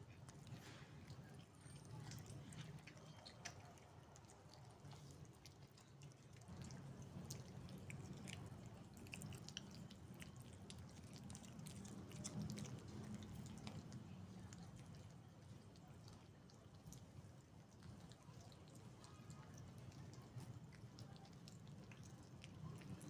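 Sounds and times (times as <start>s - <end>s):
cat chewing meat: 0.0s - 23.0s.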